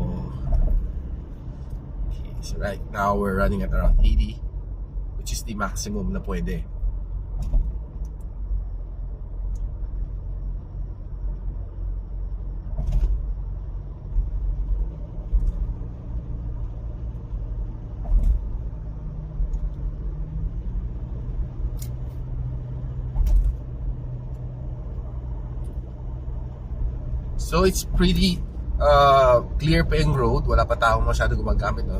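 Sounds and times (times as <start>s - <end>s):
road and engine rumble: 0.0s - 31.9s.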